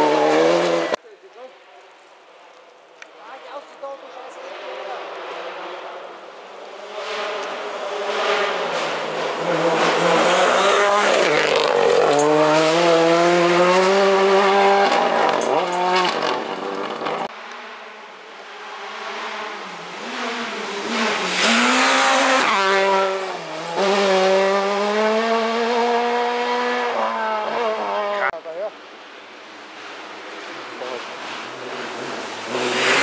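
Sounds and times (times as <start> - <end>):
rally car engine revving: 0.0 - 1.0, 4.3 - 28.4, 29.7 - 33.0.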